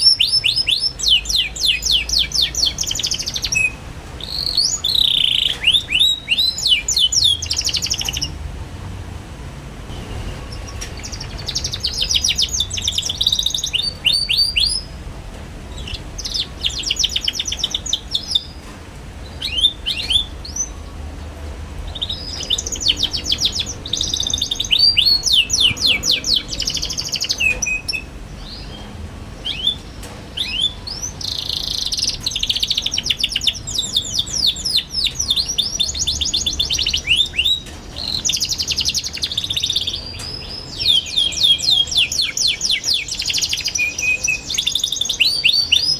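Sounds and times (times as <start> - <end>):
canary singing trills: 0.0 - 8.5, 9.9 - 21.2, 21.8 - 45.9.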